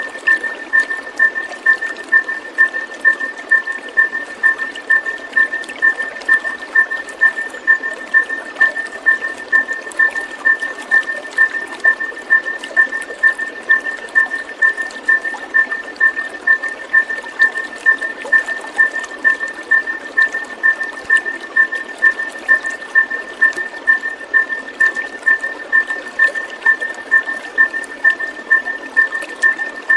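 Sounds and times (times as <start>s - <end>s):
water trickling: 0.0s - 29.9s.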